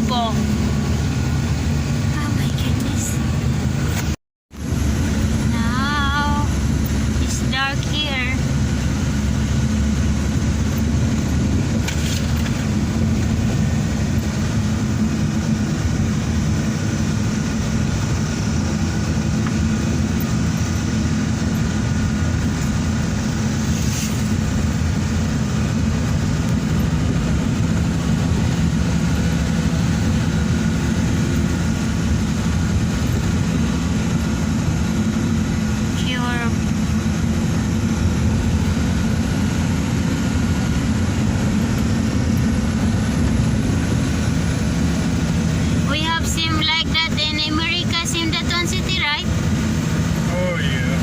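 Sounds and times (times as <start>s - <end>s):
van engine and road noise: 0.0s - 51.0s.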